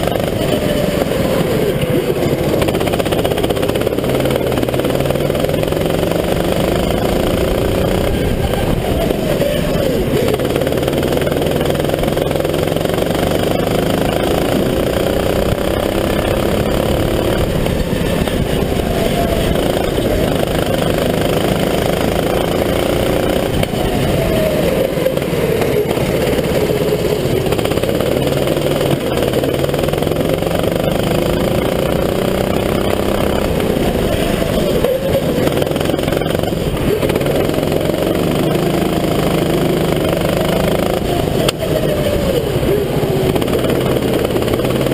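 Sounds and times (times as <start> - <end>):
go-kart engine revving: 0.0 - 44.9.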